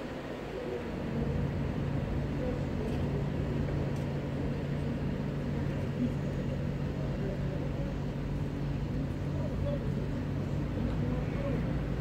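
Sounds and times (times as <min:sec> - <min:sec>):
constant low hum: 0:00.0 - 0:12.0
low urban rumble: 0:00.0 - 0:12.0.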